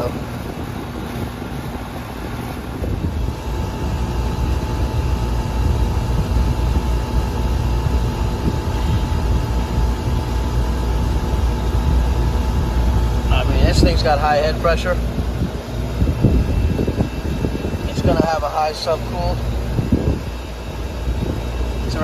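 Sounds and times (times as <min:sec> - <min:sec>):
air conditioner compressor humming: 0:00.0 - 0:22.0.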